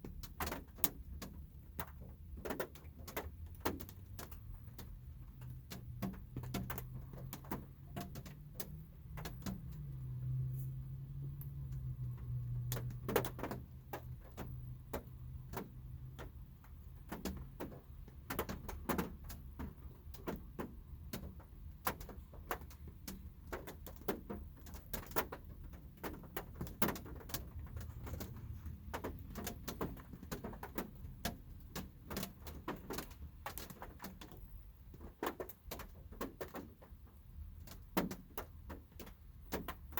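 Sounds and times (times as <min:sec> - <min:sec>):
raindrops tapping on car roof: 0:00.0 - 0:39.9.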